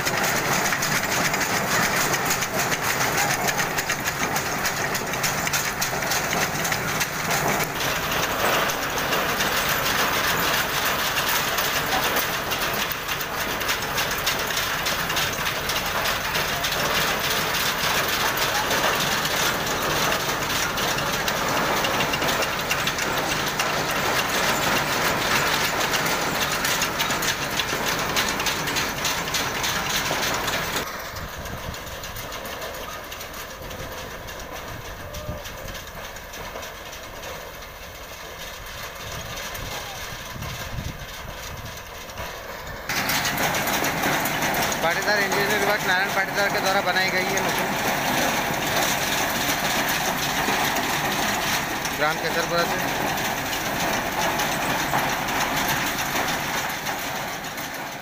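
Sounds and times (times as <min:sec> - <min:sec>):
harvesting machine clattering: 0:00.0 - 0:58.0.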